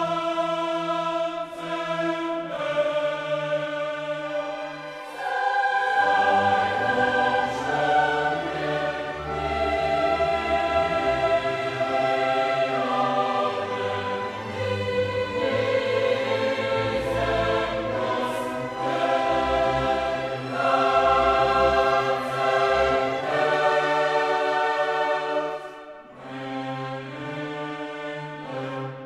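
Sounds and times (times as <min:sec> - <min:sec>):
classical music sustained chords: 0:00.0 - 0:29.0.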